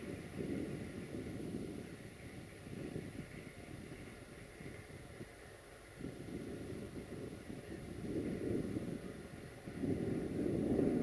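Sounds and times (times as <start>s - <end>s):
diesel locomotive rumbling: 0.0s - 11.0s
wind buffeting microphone: 0.0s - 11.0s.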